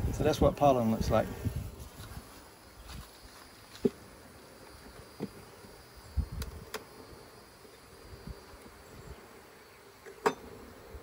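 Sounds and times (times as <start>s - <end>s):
bees buzzing: 1.4s - 11.0s.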